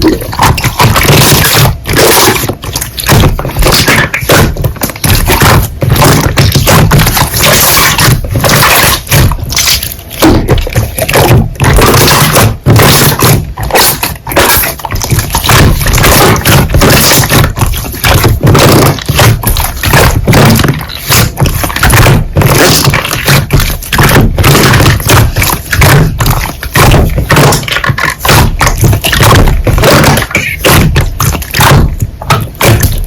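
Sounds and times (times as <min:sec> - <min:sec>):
sticky slime squelching: 0:00.0 - 0:33.0.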